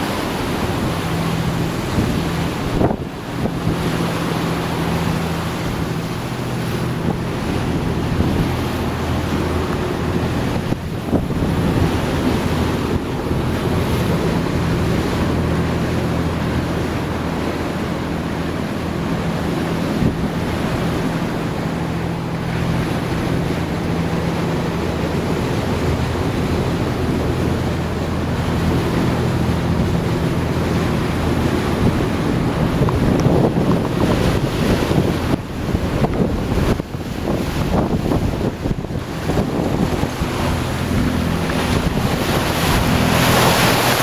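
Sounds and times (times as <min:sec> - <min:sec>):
low engine drone: 0:00.0 - 0:44.0
water rushing past hull: 0:00.0 - 0:44.0
wind buffeting microphone: 0:00.0 - 0:44.0.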